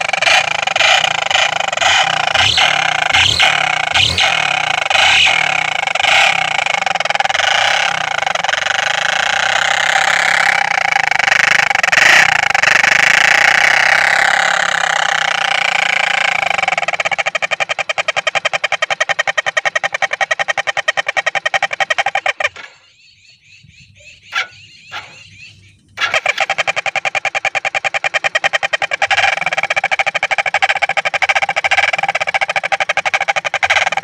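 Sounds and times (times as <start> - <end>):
fast motorcycle exhaust pulses: 0.0 - 34.0
motorcycle engine revving: 0.0 - 34.0.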